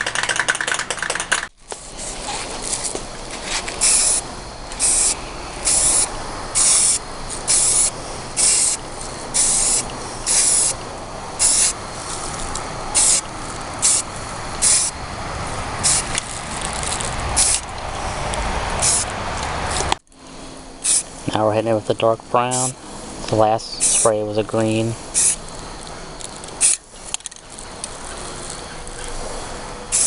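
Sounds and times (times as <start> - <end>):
spray can hissing bursts: 0.2 - 20.0, 20.8 - 21.4, 22.4 - 30.0.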